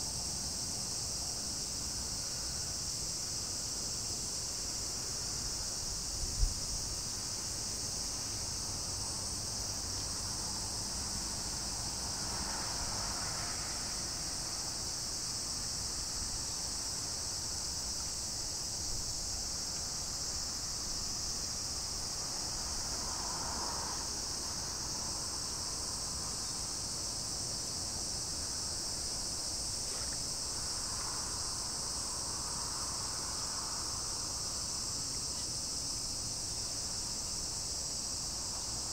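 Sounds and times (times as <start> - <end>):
insects chorus: 0.0 - 38.9.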